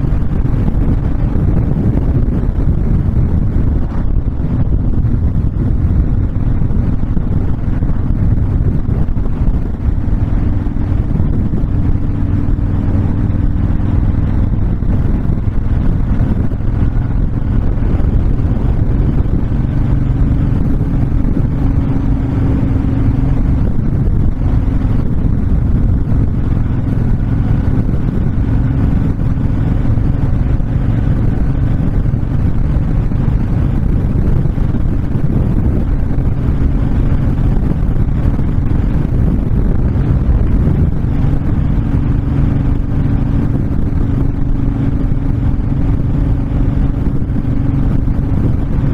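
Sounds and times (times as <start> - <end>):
motorcycle engine cruising: 0.0 - 48.9
wind rush on microphone: 0.0 - 48.9.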